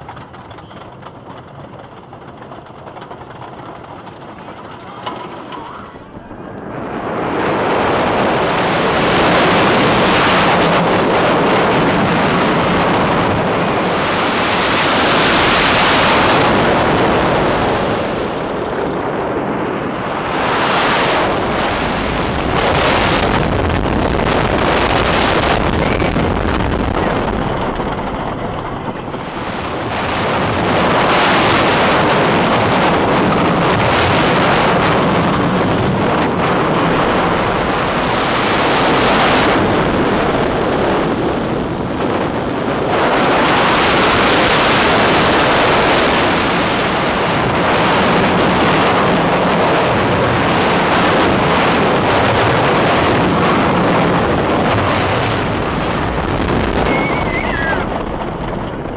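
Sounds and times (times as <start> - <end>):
roller coaster train on track: 0.0 - 58.9
wind rushing over microphone: 0.0 - 58.9.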